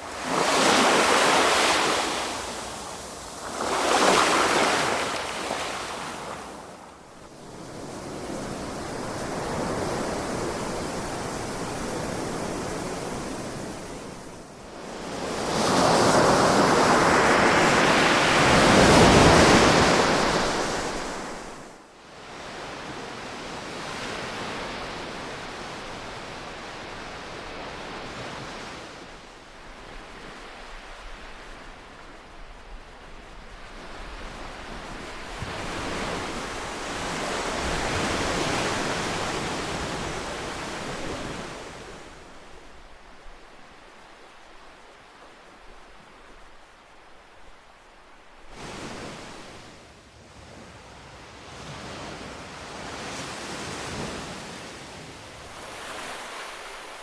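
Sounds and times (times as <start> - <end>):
ocean waves breaking on shore: 0.0 - 32.3, 33.2 - 46.1, 48.5 - 49.8, 50.4 - 57.0.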